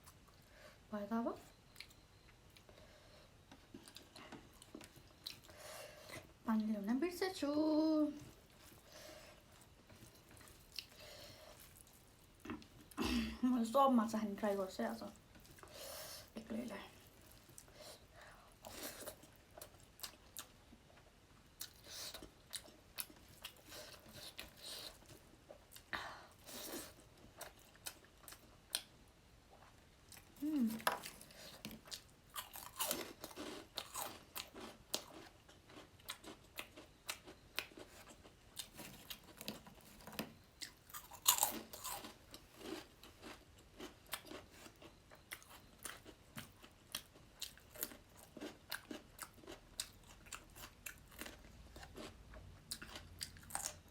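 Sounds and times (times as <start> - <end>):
chewing and crunching food: 0.0 - 13.0, 14.2 - 53.9.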